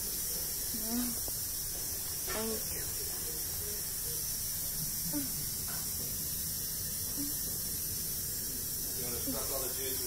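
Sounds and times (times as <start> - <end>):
faint distant voices: 0.0 - 10.0
steady background hiss: 0.0 - 10.0.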